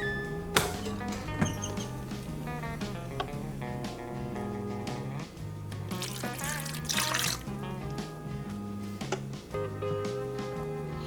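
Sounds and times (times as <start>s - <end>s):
plucked guitar-like instrumental music: 0.0s - 11.0s.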